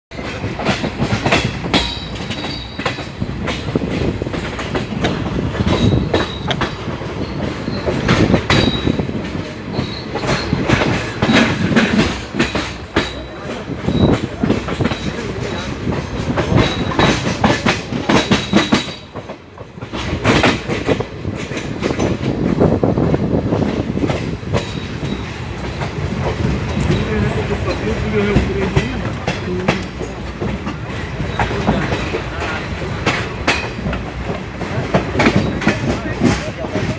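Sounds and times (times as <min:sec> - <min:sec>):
train rumbling on rails: 0:00.1 - 0:36.9
wheels clickety-clack over rail joints: 0:00.1 - 0:36.9.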